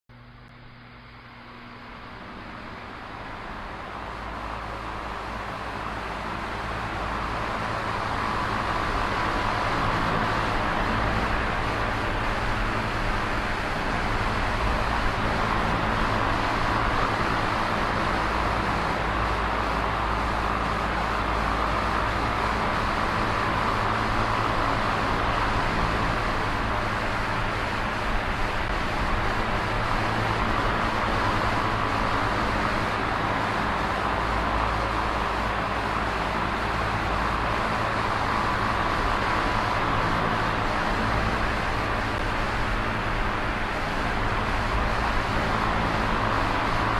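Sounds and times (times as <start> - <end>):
electric fan whooshing: 0.1 - 46.9.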